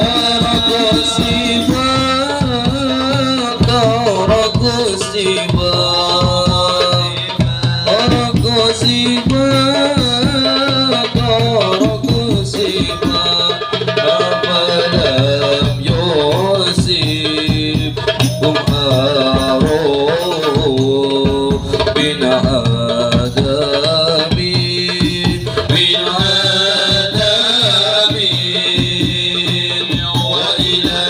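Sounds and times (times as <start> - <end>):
devotional singing: 0.0 - 31.0
hand-drum percussion: 0.0 - 31.0.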